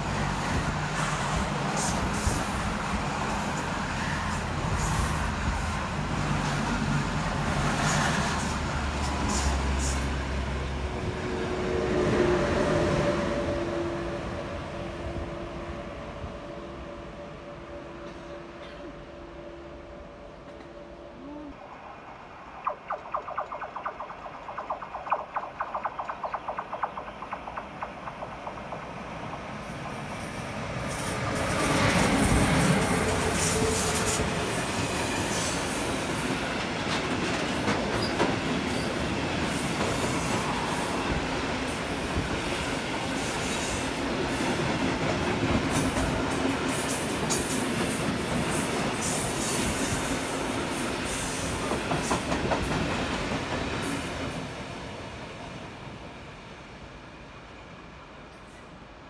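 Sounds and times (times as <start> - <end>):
train running noise: 0.0 - 59.0.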